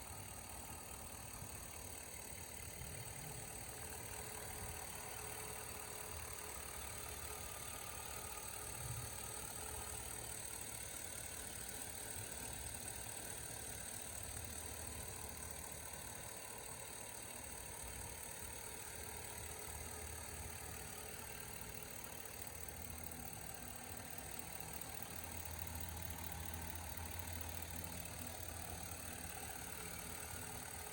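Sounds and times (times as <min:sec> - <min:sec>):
pickup engine idling: 0:00.0 - 0:30.9.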